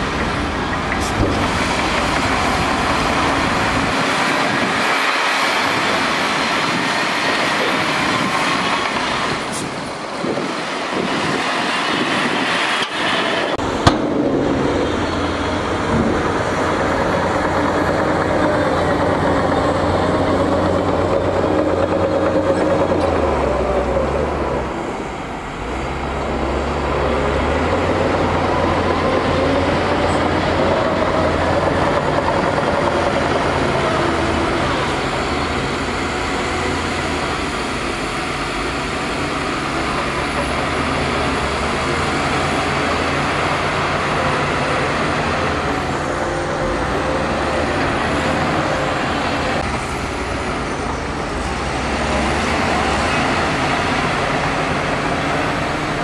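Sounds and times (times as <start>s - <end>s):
heavy diesel engines rumbling: 0.0s - 56.0s.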